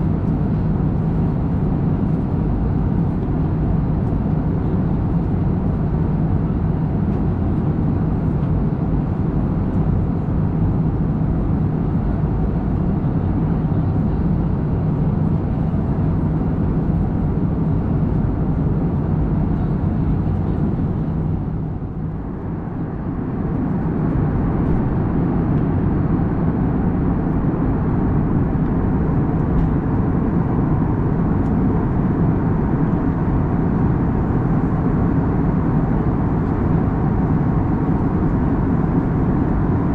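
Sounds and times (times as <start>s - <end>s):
airflow and jet engine roar: 0.0s - 39.9s.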